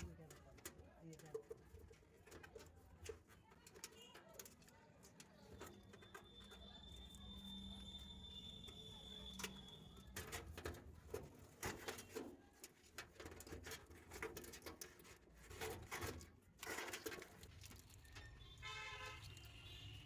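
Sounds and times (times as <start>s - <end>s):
light clicks and scrapes of parts: 0.0s - 7.5s, 8.6s - 20.0s.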